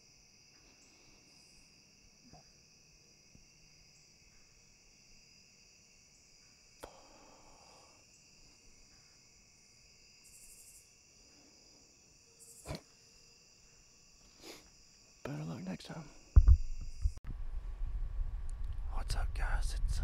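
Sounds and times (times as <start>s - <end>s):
crickets and insects chirping: 0.0s - 17.2s
high pulsing insect buzz: 0.0s - 17.2s.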